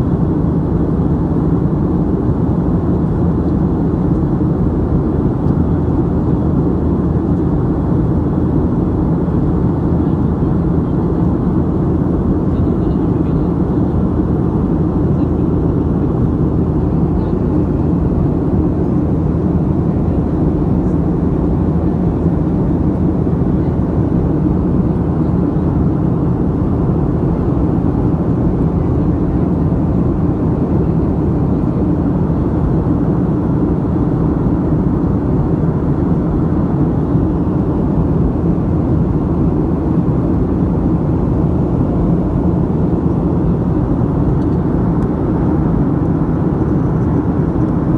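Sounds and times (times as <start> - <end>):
airliner cabin engine drone: 0.0 - 47.9.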